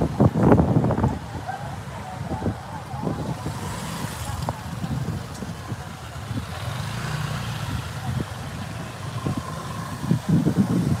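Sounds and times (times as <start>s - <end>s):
scooter engines idling: 0.1s - 11.0s.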